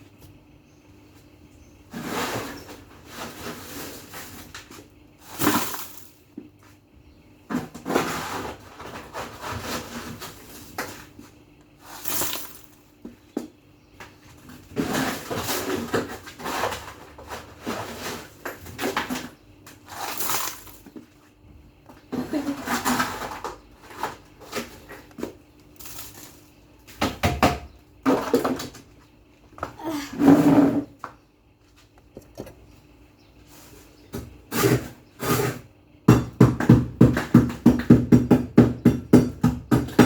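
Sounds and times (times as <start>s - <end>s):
rustling and shuffling items: 1.2s - 27.3s, 28.0s - 35.6s.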